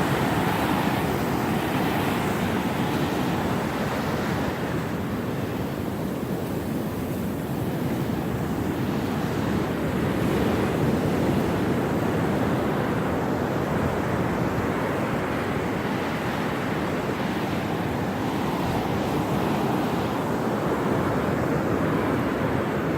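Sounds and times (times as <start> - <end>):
wind blowing across microphone: 0.0 - 22.9.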